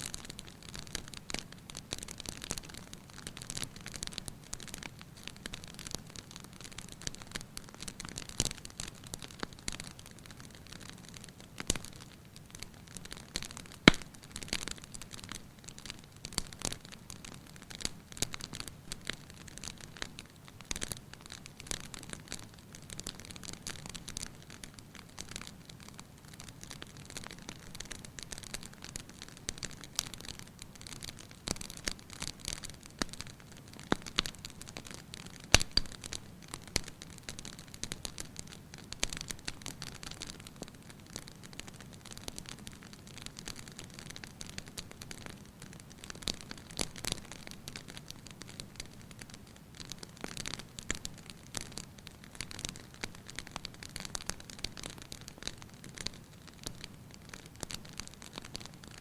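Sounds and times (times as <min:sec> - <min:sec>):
soft fire hiss: 0:00.0 - 0:59.0
wood fire crackling and popping: 0:00.0 - 0:59.0.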